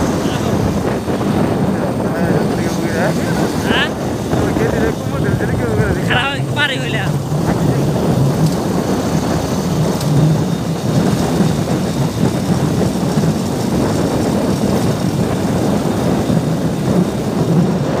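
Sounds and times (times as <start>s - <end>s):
vehicle road and engine noise: 0.0s - 18.0s.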